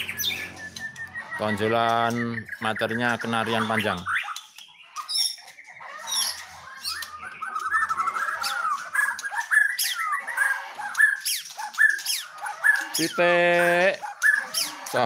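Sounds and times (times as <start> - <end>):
songbird trilling and whistling: 0.0 - 14.9.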